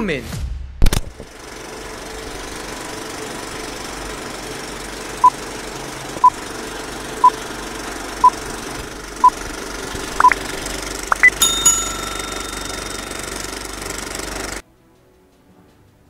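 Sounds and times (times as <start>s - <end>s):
film projector whirring: 1.1s - 14.6s.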